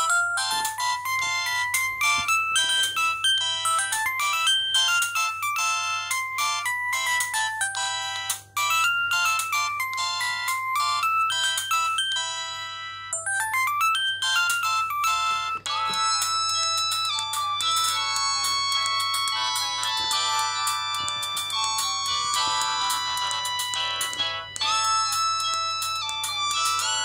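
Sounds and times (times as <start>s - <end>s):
polyphonic phone ringtone melody: 0.0s - 27.0s.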